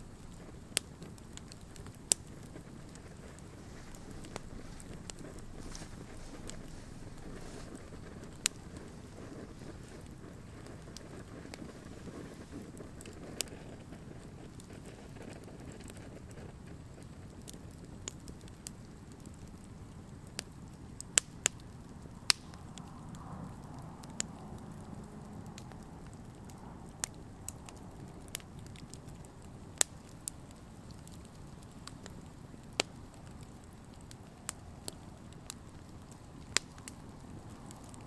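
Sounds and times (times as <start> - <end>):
campfire flames hissing: 0.0 - 38.0
wood crackling and popping: 0.0 - 38.0.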